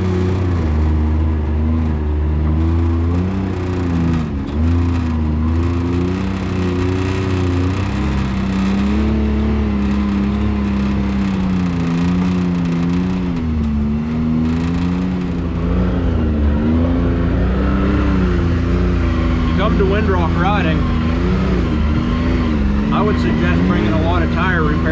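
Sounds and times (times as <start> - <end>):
engine running under changing throttle: 0.0 - 24.9.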